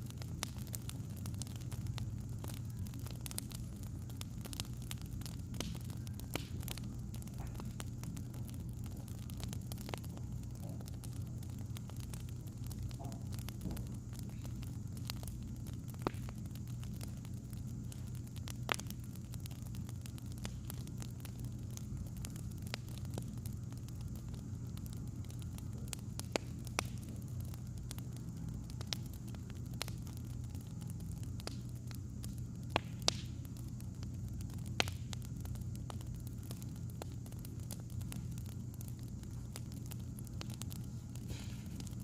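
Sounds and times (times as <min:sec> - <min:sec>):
low hum: 0:00.0 - 0:42.0
wood fire crackling and popping: 0:00.0 - 0:42.0.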